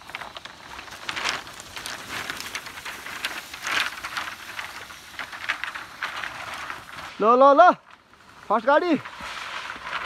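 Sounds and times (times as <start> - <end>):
bamboo canes rattling and scraping: 0.0 - 10.0
leaves crackling: 0.0 - 10.0.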